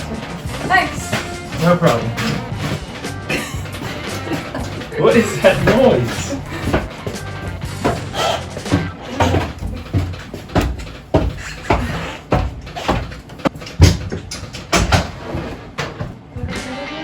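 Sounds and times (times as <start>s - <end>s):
irregular knocks and clunks: 0.0s - 16.5s.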